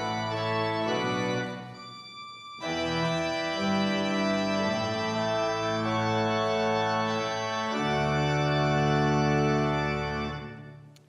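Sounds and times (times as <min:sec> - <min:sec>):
organ playing held chords: 0:00.0 - 0:01.9, 0:02.6 - 0:10.9.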